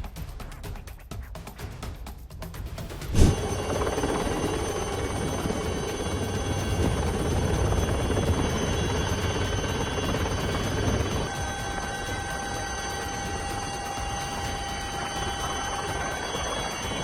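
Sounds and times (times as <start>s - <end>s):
helicopter rotor noise: 2.9s - 17.0s.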